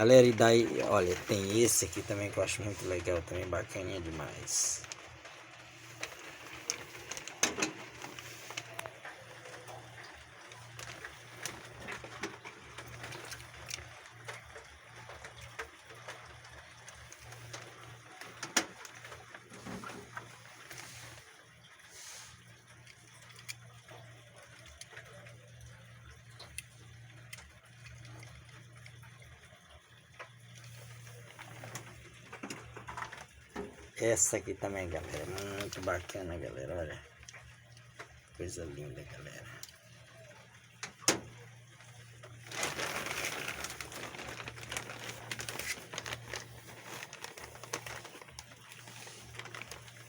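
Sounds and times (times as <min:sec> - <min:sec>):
rain on roof tiles: 0:00.0 - 0:50.0
sharp drips and clicks: 0:00.0 - 0:50.0.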